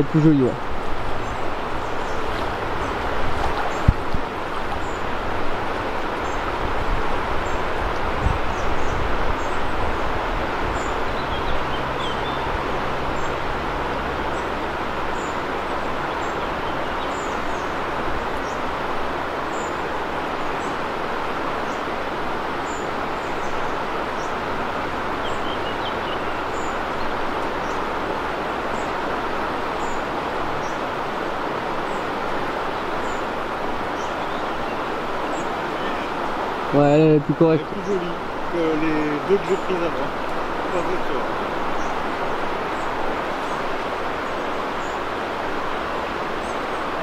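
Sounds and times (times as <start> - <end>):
river rushing over riffles: 0.0 - 47.0.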